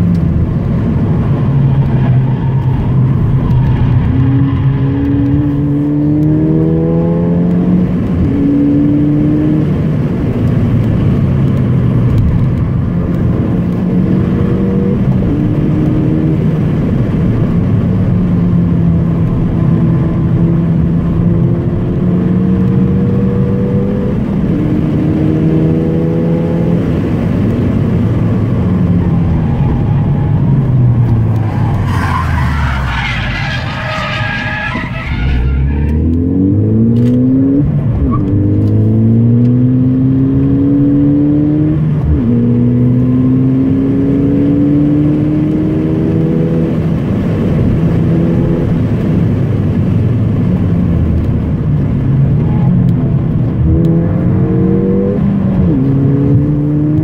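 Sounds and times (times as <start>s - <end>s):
car engine revving: 0.0s - 57.0s
tyre and road noise: 0.0s - 57.0s.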